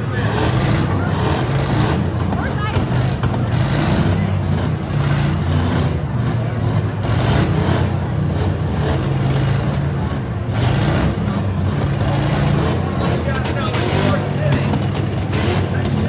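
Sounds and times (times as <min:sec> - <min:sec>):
car engines droning: 0:00.0 - 0:16.0.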